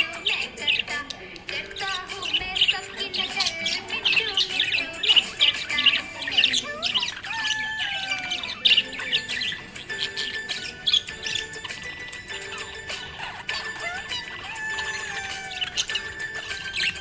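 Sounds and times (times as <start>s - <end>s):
budgerigar chirping and warbling: 0.0s - 17.0s.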